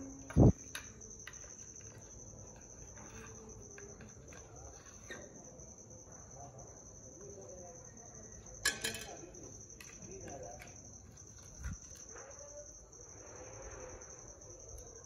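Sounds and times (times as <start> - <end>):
faint background murmur: 0.0 - 15.0.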